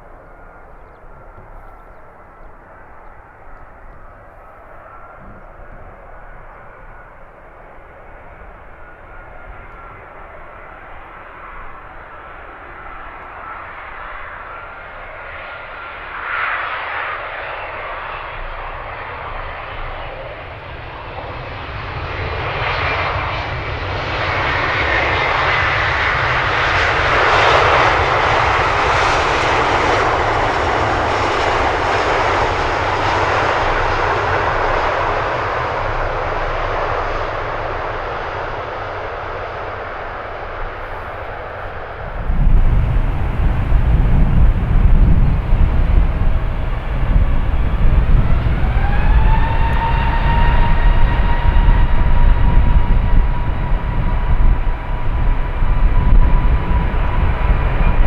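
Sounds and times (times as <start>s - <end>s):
jet airliner passing: 0.0s - 58.0s.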